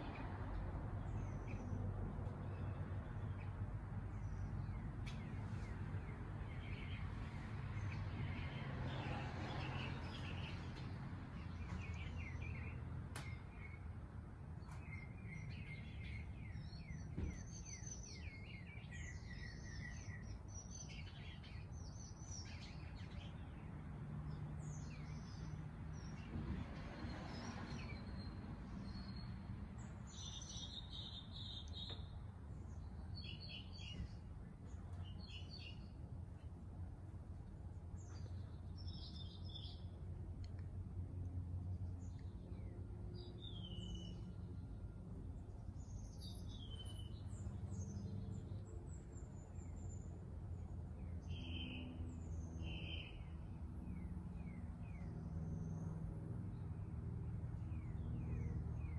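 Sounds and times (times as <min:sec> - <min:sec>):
songbirds chirping and calling: 0:00.0 - 0:58.9.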